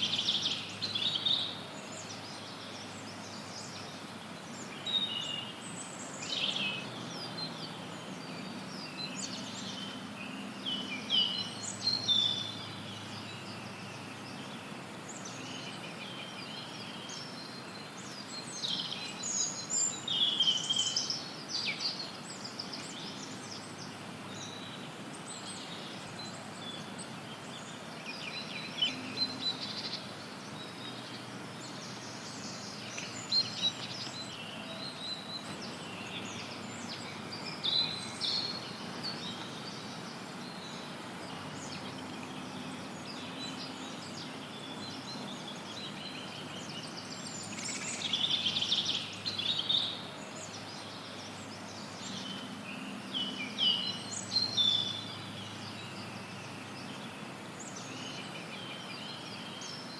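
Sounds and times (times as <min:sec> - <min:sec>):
songbirds chirping and trilling: 0:00.0 - 0:59.9
steady white noise hiss: 0:00.0 - 0:59.9.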